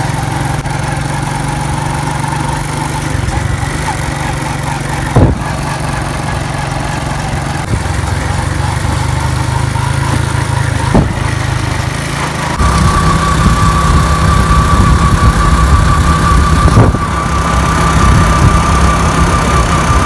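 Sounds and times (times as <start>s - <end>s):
motorcycle engine rumble: 0.0s - 20.0s
thin steady whine: 0.0s - 20.0s.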